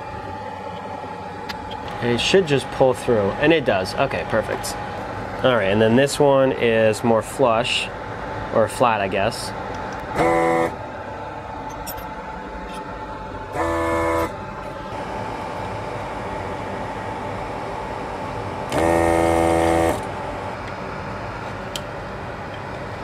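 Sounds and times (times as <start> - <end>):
desoldering pump buzzing: 0.0 - 11.6, 12.6 - 23.0
low background hum: 0.0 - 23.0.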